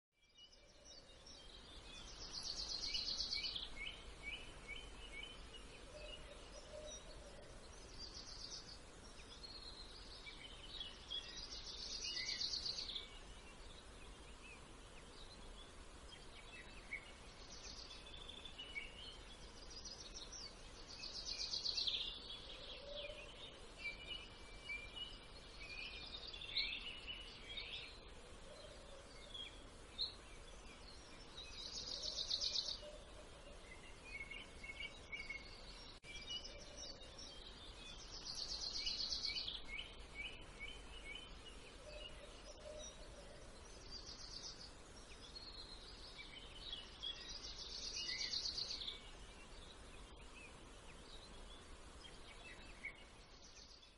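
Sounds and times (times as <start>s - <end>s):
songbirds singing: 0.1s - 53.9s.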